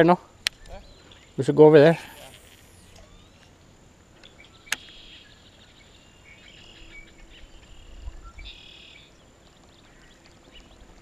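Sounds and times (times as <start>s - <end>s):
marsh birds chirping: 0.0s - 11.0s
high insect drone: 0.3s - 9.3s.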